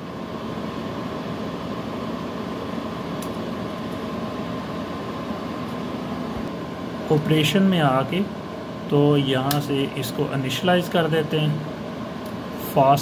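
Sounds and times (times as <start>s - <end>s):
server cooling fans humming: 0.0s - 13.0s.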